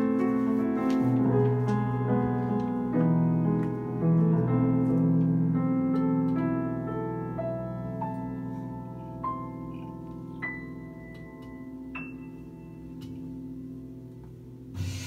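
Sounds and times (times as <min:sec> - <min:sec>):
jazz grand piano: 0:00.0 - 0:15.0.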